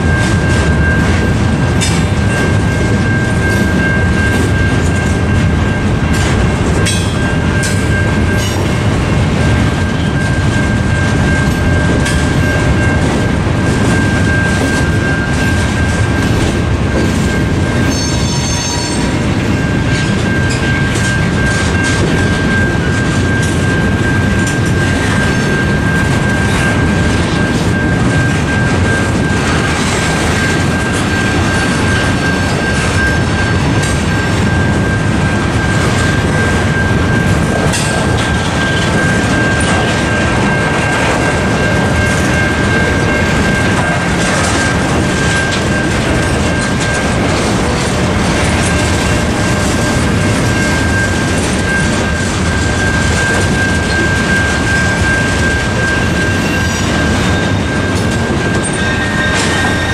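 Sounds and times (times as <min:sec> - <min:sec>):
crossing bell ringing: 0:00.0 - 0:59.9
train wheels rumbling on rails: 0:00.0 - 0:59.9.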